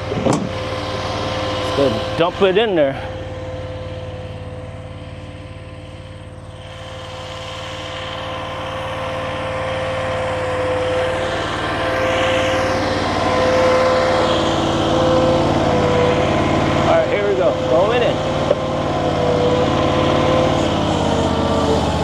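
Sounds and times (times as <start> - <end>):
skid steer engine whining: 0.0 - 22.0.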